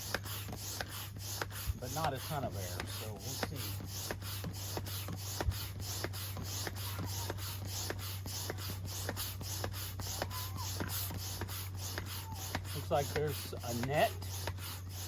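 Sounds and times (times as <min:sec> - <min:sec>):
hand pump whooshing air: 0:00.0 - 0:15.0.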